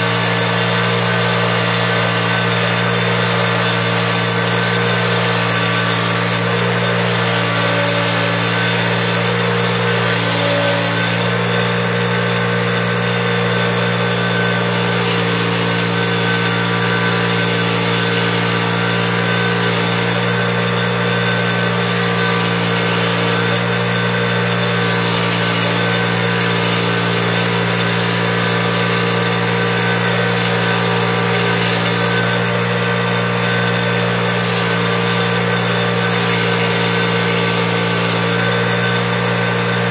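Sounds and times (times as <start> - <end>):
bench grinder motor humming: 0.0 - 39.9.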